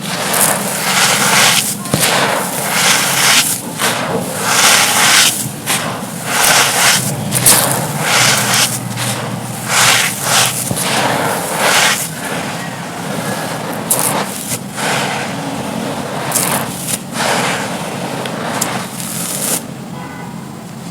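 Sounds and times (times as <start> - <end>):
dry material crunching: 0.0 - 19.8
grainy rustling: 0.0 - 19.8.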